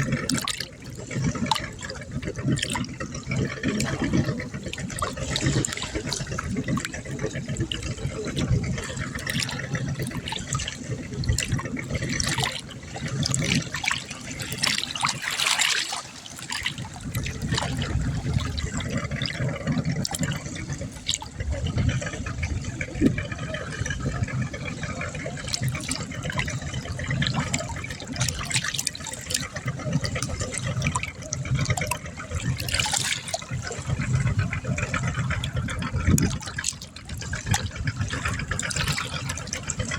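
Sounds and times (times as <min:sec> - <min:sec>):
water splashing and lapping: 0:00.0 - 0:39.9.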